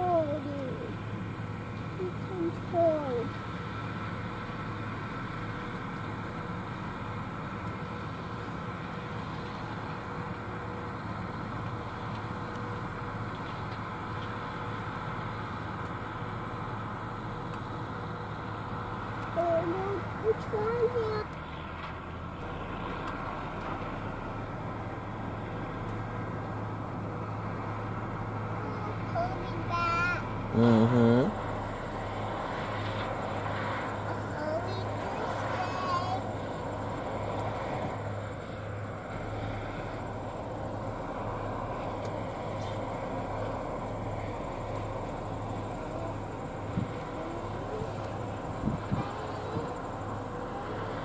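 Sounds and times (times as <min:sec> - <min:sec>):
combine harvester drone: 0:00.0 - 0:51.0.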